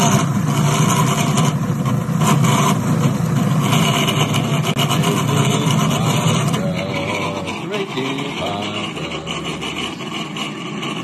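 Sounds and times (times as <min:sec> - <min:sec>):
dough churning in food processor: 0:00.0 - 0:11.0
food processor motor running: 0:00.0 - 0:11.0.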